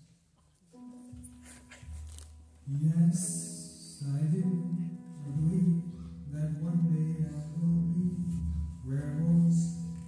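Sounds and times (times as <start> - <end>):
grand piano and voice: 0.7 - 10.0.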